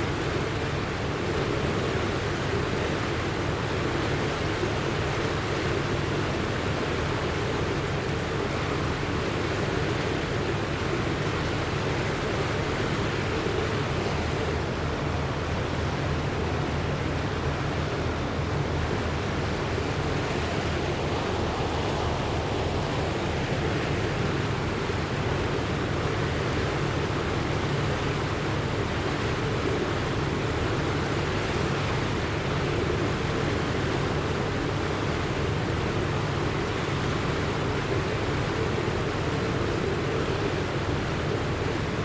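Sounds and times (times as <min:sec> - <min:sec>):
floodwater rushing: 0:00.0 - 0:42.0.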